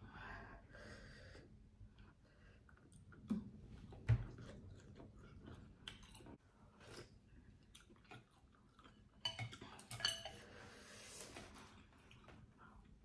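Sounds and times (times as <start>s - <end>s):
person chewing quietly: 1.9s - 13.0s.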